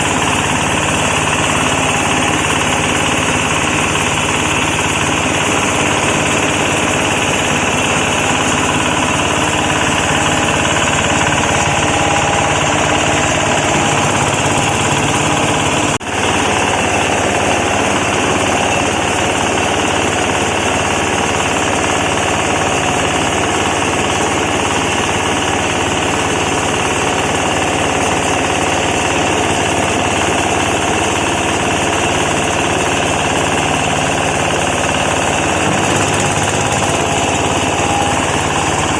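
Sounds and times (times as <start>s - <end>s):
shredding machine clattering: 0.0s - 38.9s.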